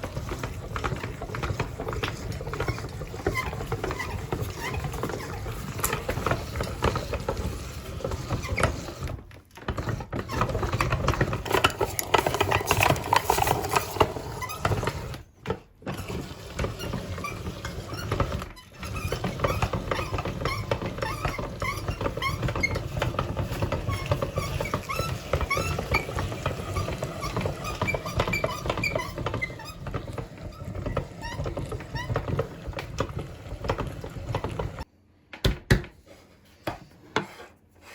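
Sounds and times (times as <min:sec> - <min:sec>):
meat grinder crunching and squeaking: 0:00.0 - 0:34.9.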